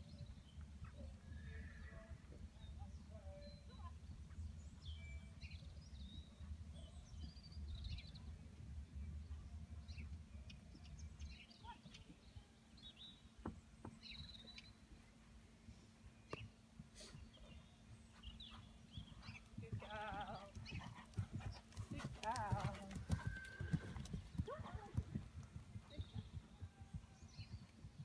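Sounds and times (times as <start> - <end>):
small birds chirping: 0.1 - 8.4, 9.1 - 28.0.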